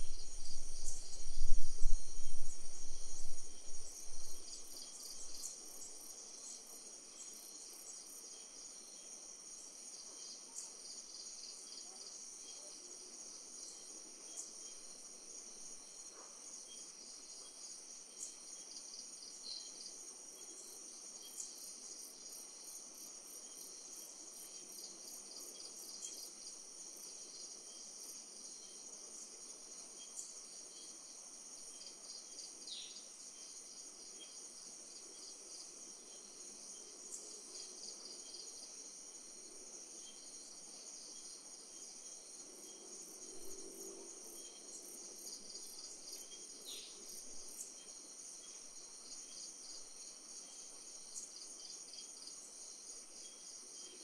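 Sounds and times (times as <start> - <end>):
crickets trilling: 0.0 - 16.1, 16.7 - 54.0.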